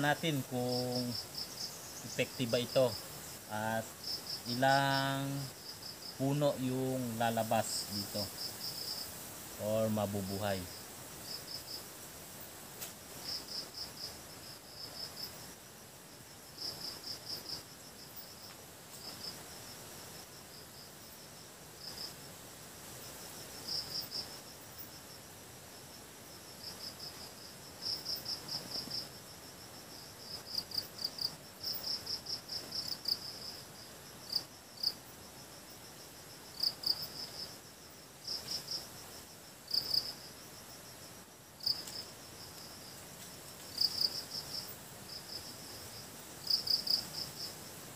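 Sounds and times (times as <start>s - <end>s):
insects chirping: 0.0s - 47.9s.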